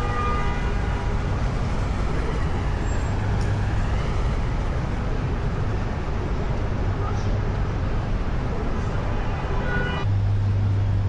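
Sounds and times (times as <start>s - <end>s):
heavy vehicle engine rumble: 0.0s - 9.3s
passing vehicles: 0.0s - 11.0s.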